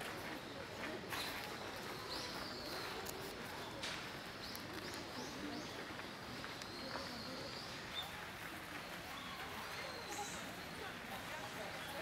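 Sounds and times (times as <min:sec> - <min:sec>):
murmur of people: 0:00.0 - 0:12.0
small birds chirping: 0:00.0 - 0:12.0.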